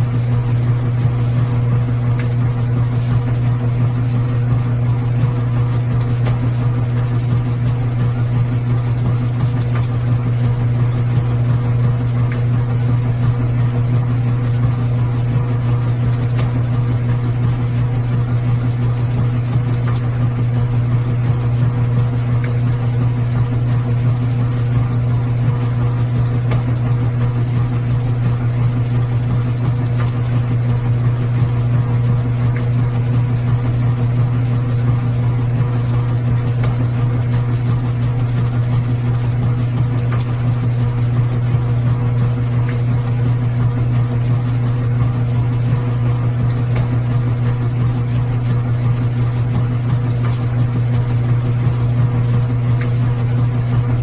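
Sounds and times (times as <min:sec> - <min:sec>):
washing machine humming: 0:00.0 - 0:54.0.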